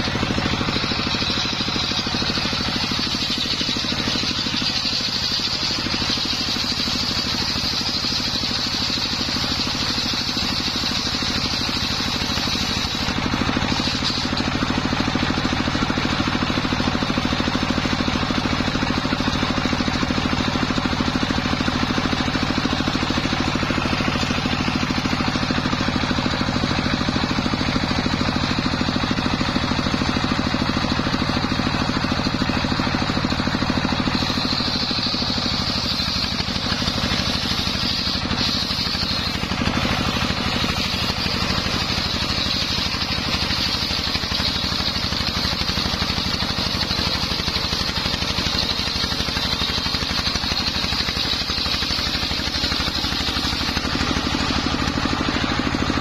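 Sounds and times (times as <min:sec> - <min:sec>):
circular saw blade cutting log: 0:00.0 - 0:56.0
sawmill engine running: 0:00.0 - 0:56.0.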